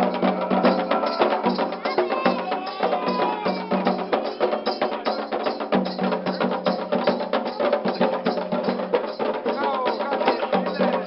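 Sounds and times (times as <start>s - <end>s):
hand drums: 0.0s - 11.0s
wood-block-like struck percussion: 0.0s - 11.0s.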